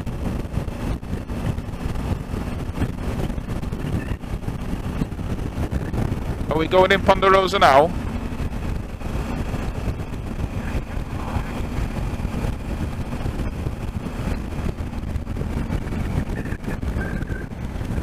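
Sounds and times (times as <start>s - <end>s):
motorcycle engine drone: 0.0s - 18.0s
wind rush on microphone: 0.0s - 18.0s.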